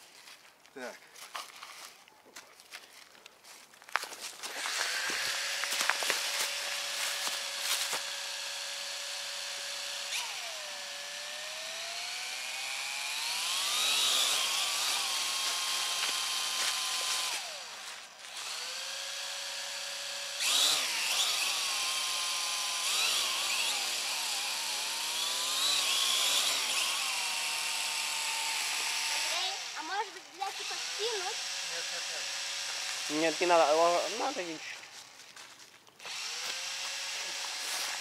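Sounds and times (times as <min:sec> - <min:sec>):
toy drone motors whining: 0:04.4 - 0:34.6, 0:36.0 - 0:38.0.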